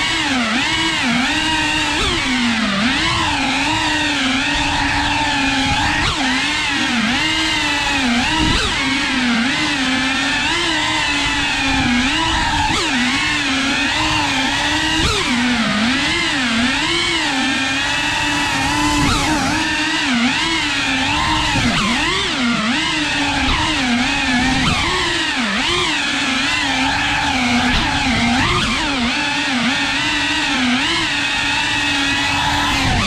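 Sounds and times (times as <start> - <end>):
drone motors whining: 0.0 - 33.0.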